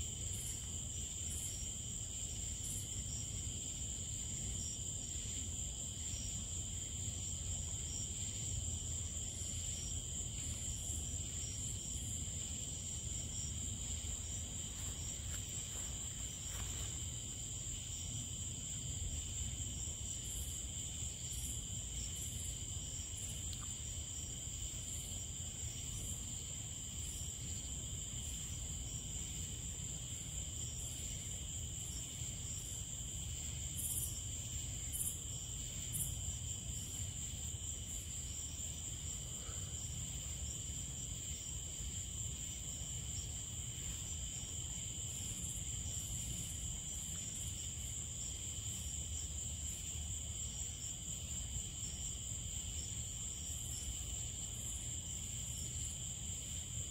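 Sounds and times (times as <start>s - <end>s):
crickets and insects trilling: 0.0s - 56.9s.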